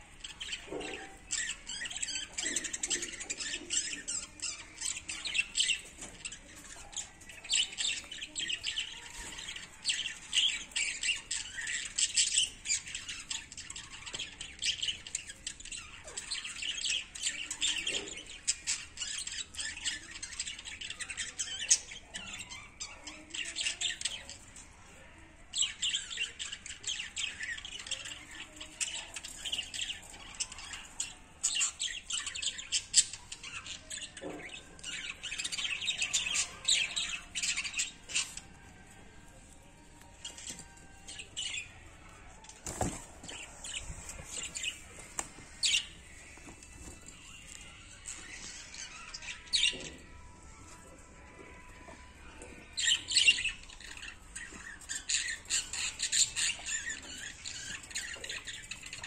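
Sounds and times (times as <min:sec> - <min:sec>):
guinea pigs chewing greens: 0:00.1 - 0:59.0.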